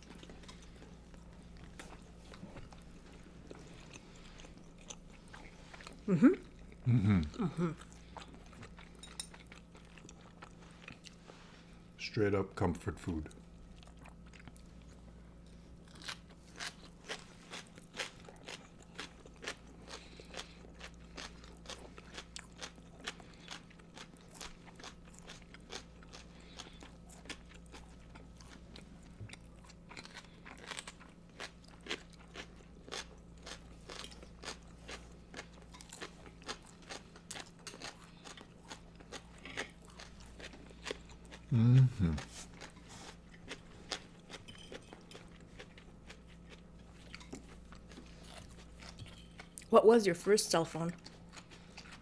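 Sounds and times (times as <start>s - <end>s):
chewing and biting food: 0.0s - 11.9s, 13.3s - 49.7s, 50.8s - 52.0s
faint low hum: 0.0s - 52.0s.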